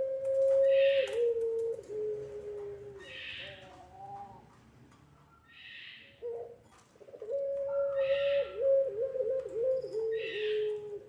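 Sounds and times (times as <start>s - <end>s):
dove cooing: 0.0s - 4.6s, 5.7s - 11.0s.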